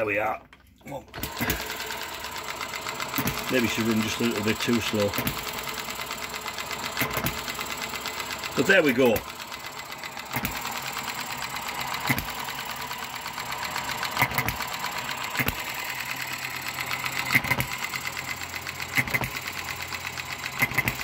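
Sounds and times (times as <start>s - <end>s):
model engine clattering: 0.1s - 21.0s
engine firing stroke: 1.1s - 21.0s.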